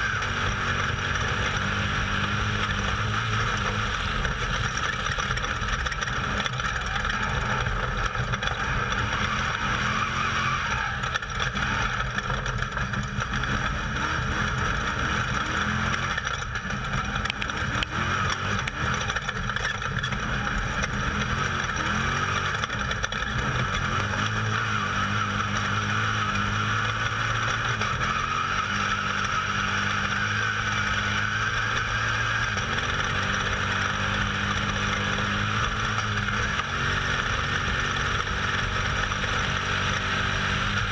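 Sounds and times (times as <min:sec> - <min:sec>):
race vehicle engine revving: 0:00.0 - 0:40.9.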